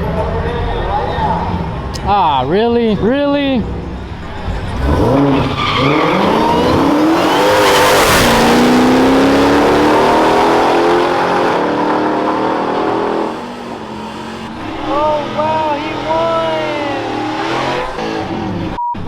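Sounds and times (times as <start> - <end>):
race car engines accelerating: 0.0 - 18.8.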